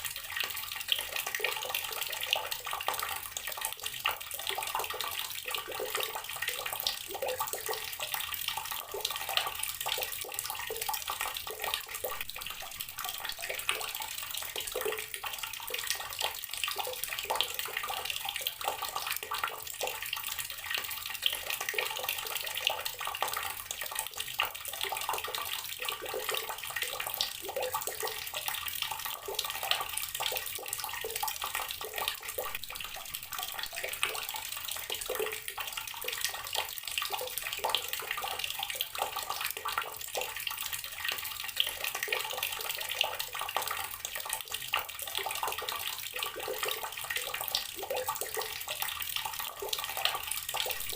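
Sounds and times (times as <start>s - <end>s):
water running from a tap: 0.0s - 50.9s.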